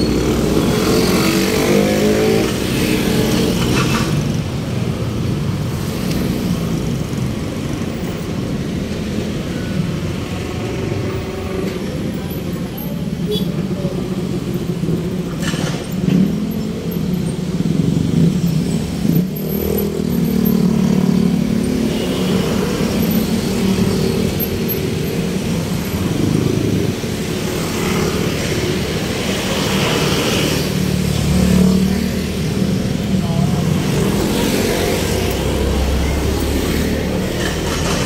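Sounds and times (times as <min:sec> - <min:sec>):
road traffic: 0:00.0 - 0:38.0
vehicle engines running: 0:00.0 - 0:38.0.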